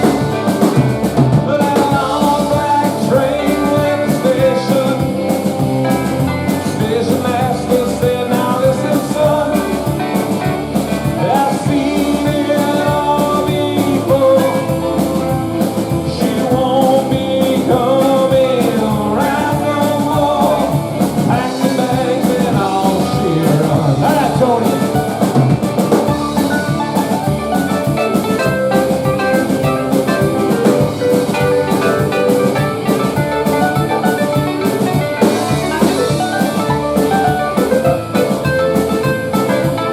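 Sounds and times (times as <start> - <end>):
live blues rock band: 0.0 - 39.9.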